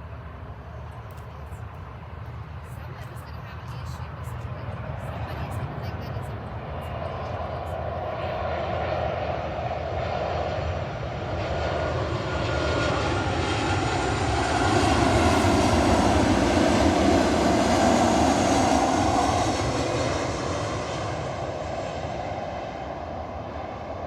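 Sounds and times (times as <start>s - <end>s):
jet airliner passing by: 0.0s - 24.0s.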